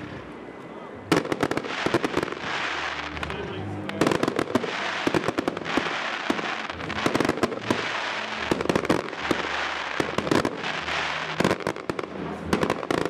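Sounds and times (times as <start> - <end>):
fireworks bangs and pops: 1.1 - 13.0.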